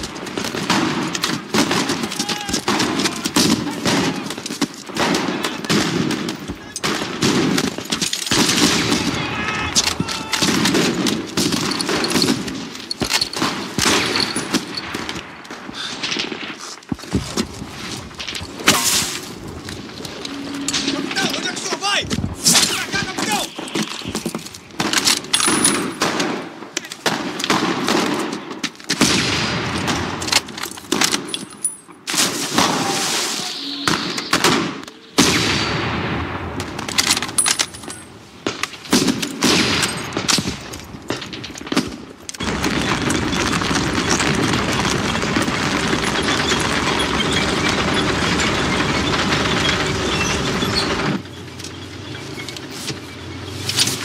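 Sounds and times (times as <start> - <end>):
rifle and machine-gun fire: 0.0 - 20.1, 22.4 - 31.4, 34.0 - 51.4.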